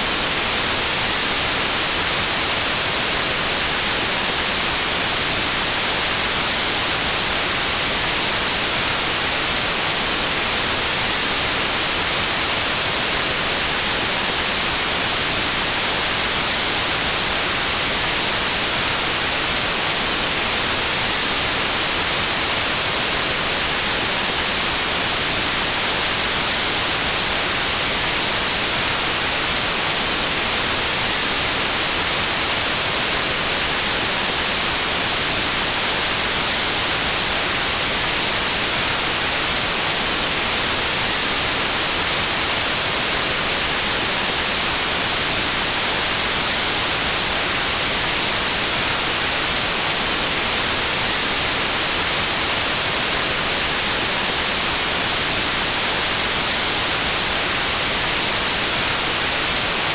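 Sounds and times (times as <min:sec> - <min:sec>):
steady white noise: 0:00.0 - 0:59.9.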